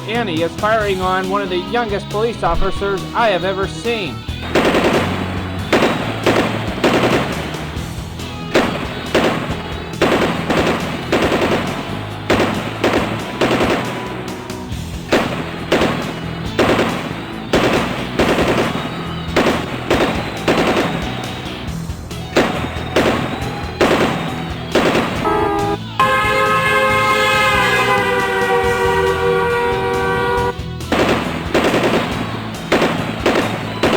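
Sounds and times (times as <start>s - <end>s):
background music with bass line: 0.0s - 33.9s
rapid gunfire: 4.4s - 33.9s.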